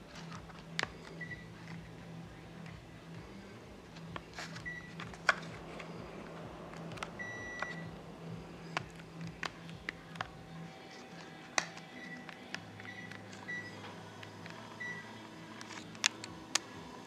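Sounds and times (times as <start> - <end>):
air conditioner beeps: 0.0 - 10.8, 11.8 - 15.6
steady low hum: 0.0 - 17.0.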